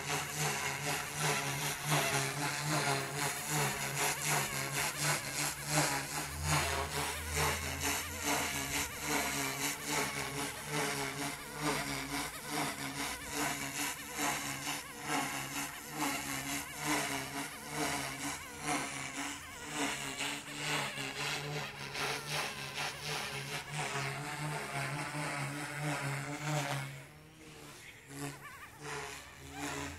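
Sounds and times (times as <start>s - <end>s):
rc helicopter motor buzzing: 0.0s - 29.9s.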